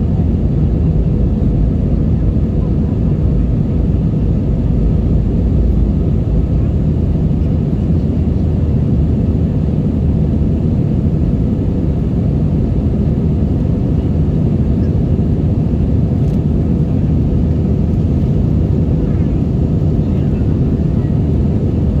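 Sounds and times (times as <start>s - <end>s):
jet engines low rumble: 0.0s - 22.0s.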